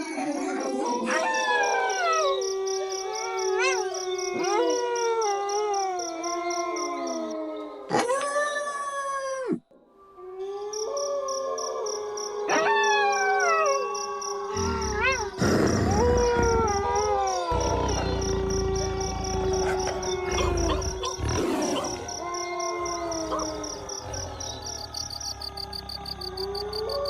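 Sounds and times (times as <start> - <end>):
wolves howling in chorus: 0.0 - 8.7, 10.0 - 27.0.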